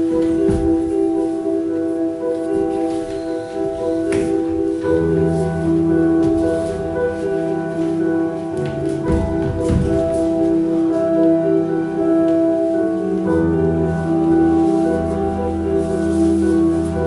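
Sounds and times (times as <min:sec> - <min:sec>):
ambient music of held tones: 0:00.0 - 0:17.0.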